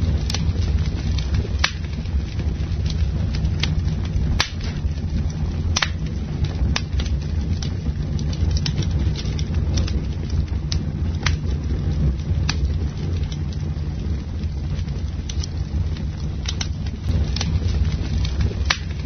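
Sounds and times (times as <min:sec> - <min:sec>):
campfire crackling: 0:00.0 - 0:19.0
low rumble: 0:00.0 - 0:19.0.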